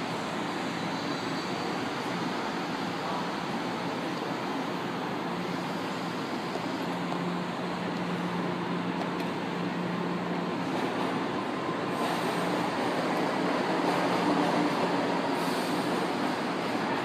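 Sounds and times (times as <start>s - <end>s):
train rumbling and humming: 0.0s - 17.0s.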